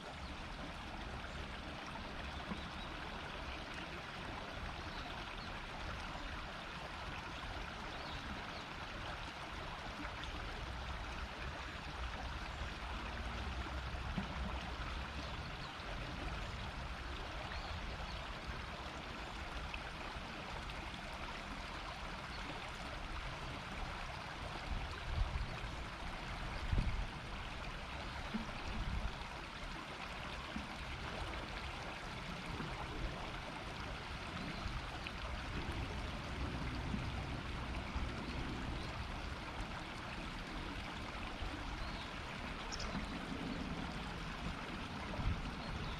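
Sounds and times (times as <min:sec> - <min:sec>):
river water murmuring: 0:00.0 - 0:45.9.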